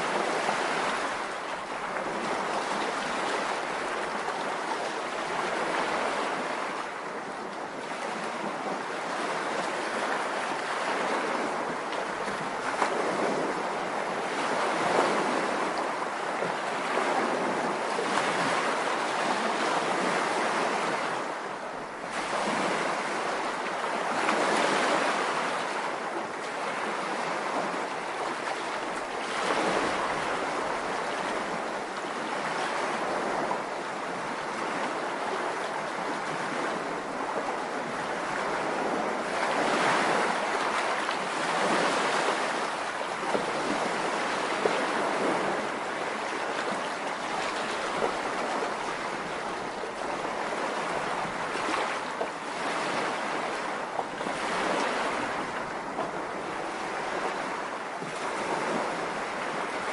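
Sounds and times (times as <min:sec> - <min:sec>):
waves breaking: 0:00.0 - 0:59.9.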